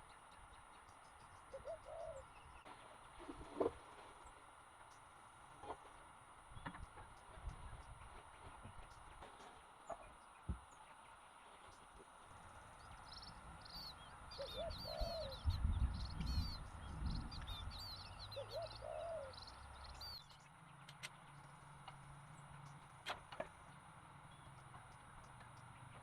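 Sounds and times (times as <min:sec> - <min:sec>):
wild birds chirping: 0:00.0 - 0:26.0.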